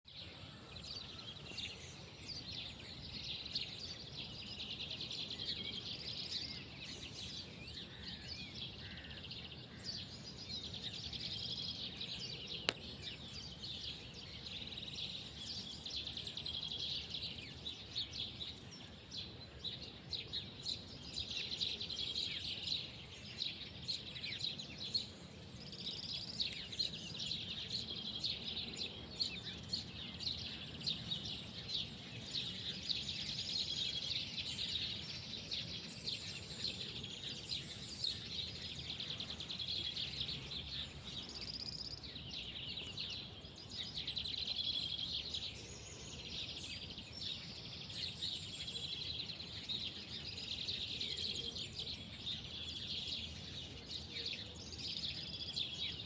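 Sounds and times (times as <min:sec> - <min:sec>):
small birds chirping and twittering: 0:00.0 - 0:56.0.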